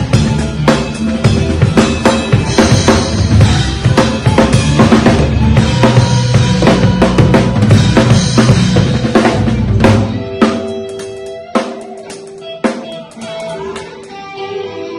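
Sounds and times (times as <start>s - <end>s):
drum kit played hard: 0.0s - 14.1s
sustained music chords: 0.0s - 14.9s.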